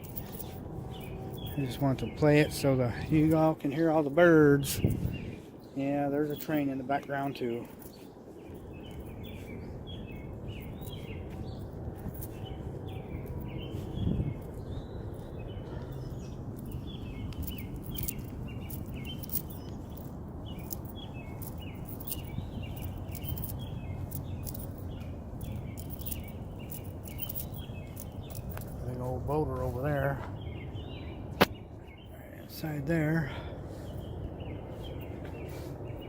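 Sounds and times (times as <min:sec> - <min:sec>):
distant train rumble: 0:00.0 - 0:31.3
birds chirping: 0:00.0 - 0:36.0.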